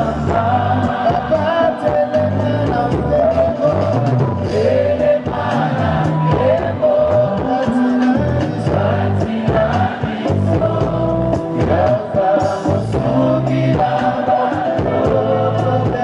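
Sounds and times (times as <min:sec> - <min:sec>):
bass line: 0:00.0 - 0:16.0
choir singing: 0:00.0 - 0:16.0
drum beat: 0:00.0 - 0:16.0.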